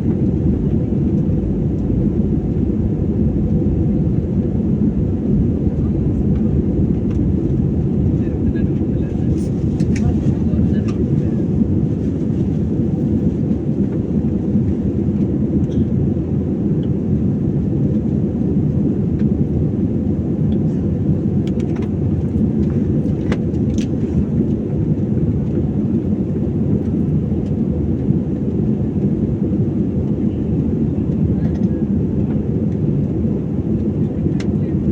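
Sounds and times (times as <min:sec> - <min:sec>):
jet engine roar in cabin: 0:00.0 - 0:34.9.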